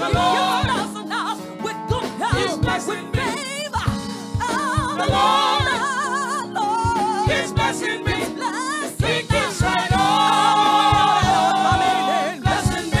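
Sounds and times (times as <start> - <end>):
steady kick drum beat: 0.0 - 1.1, 1.9 - 6.0, 6.7 - 13.0
gospel choir singing: 0.0 - 1.5, 2.3 - 3.4, 4.9 - 13.0
live band playing: 0.0 - 13.0.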